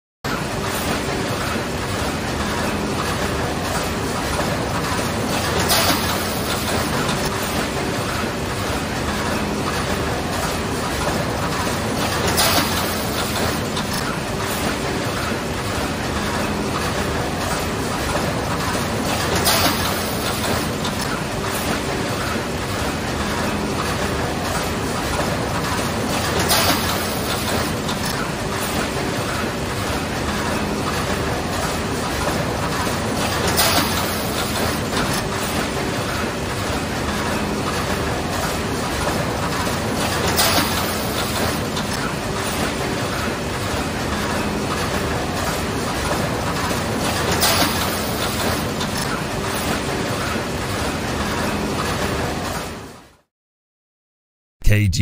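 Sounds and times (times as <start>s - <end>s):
machinery clattering: 0.3s - 44.4s.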